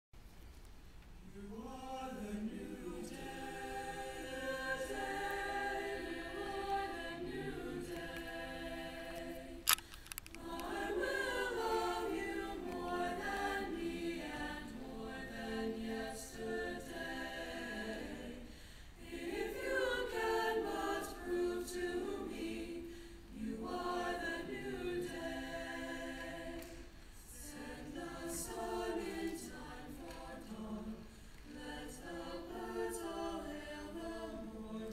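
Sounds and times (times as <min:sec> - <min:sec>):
choir singing a cappella: 0:01.2 - 0:34.9.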